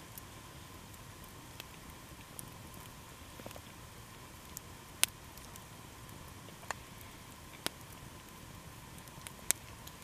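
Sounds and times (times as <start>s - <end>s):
campfire crackling and popping: 0.0s - 10.0s
faint steady hiss: 0.0s - 10.0s.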